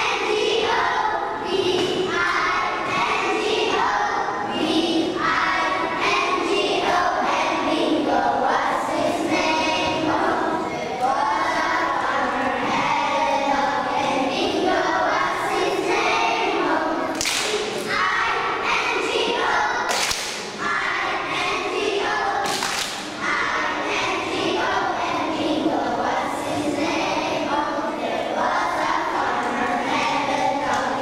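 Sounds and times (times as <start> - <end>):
children singing together: 0.0 - 31.0.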